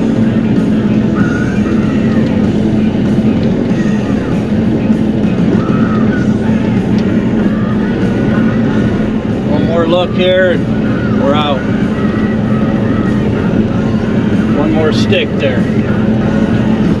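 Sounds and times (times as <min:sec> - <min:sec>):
diesel engine running: 0:00.0 - 0:17.0
rock music with guitar: 0:00.0 - 0:17.0.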